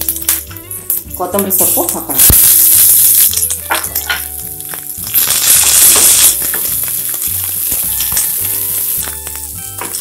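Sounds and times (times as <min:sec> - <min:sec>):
vegetables sizzling in hot oil: 0:01.0 - 0:10.0.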